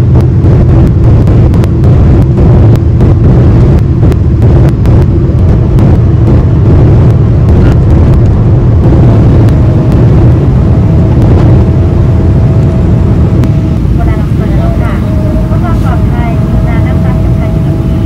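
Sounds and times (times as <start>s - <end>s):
engine and air rumble: 0.0s - 18.0s
steady whine: 0.0s - 18.0s.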